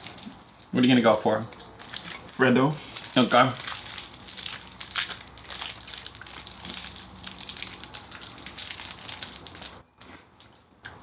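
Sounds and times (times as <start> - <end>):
plastic wrappers crinkling: 0.0 - 9.8.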